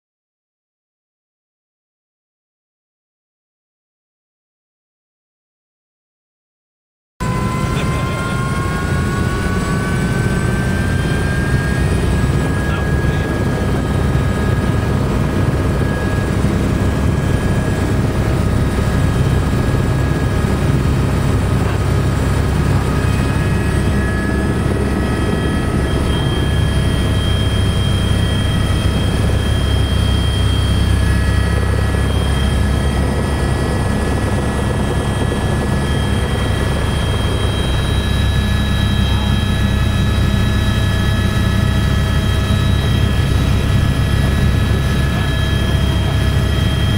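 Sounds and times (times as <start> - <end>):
helicopter rotor noise: 7.2 - 46.9
turbine whine: 7.2 - 46.9.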